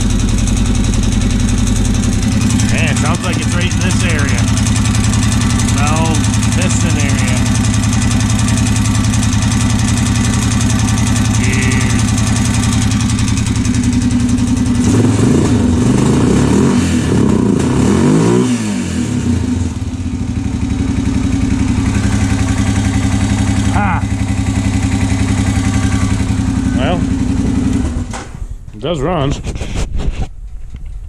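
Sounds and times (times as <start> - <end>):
motorcycle engine idling and revving: 0.0 - 29.3.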